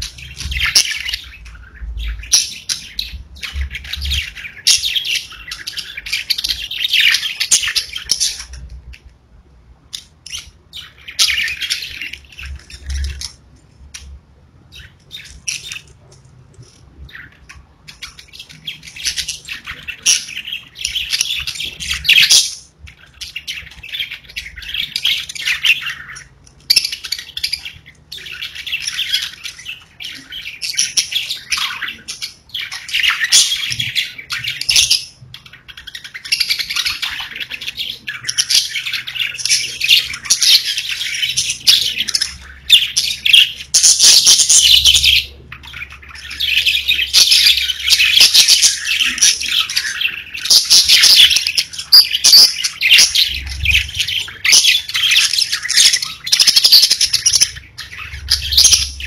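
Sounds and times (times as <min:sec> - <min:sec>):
budgerigars chirping: 0:00.0 - 0:08.7, 0:09.9 - 0:14.0, 0:14.7 - 0:16.0, 0:16.6 - 0:59.0.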